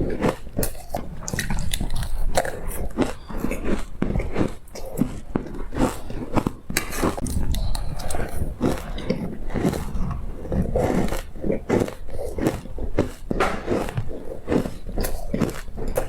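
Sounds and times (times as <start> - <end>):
crunching frozen ice: 0.0 - 16.0.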